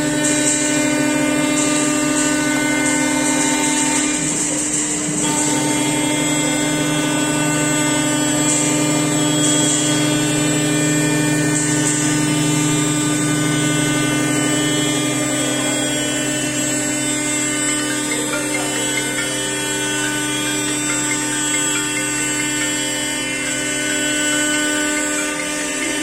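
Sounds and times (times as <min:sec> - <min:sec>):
cnc router whining: 0:00.0 - 0:26.0.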